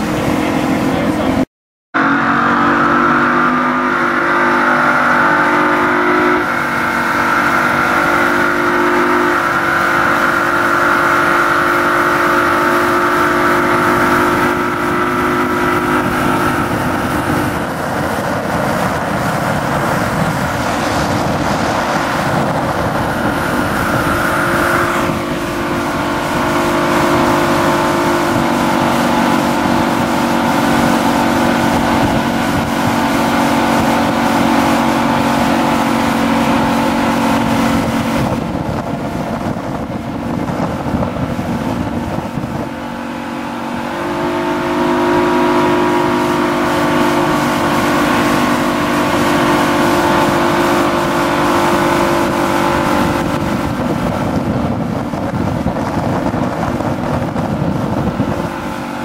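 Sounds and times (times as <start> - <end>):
boat engine running: 0.0 - 59.0
water rushing from wake: 0.0 - 59.0.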